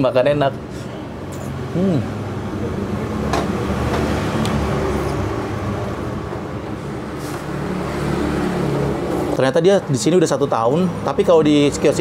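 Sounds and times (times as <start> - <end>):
road traffic drone: 0.0 - 12.0.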